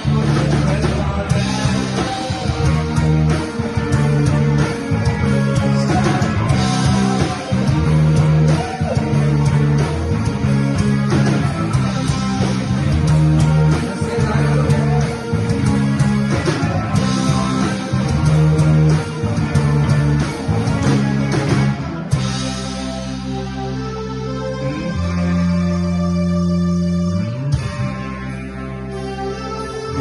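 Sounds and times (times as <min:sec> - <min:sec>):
bass guitar: 0:00.0 - 0:30.0
electric guitars: 0:00.0 - 0:30.0
rock band playing: 0:00.0 - 0:30.0.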